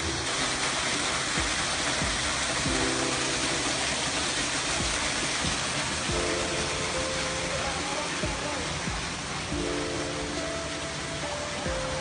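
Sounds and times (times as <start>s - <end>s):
soft background music chords: 0.0s - 12.0s
waterfall rushing: 0.0s - 12.0s.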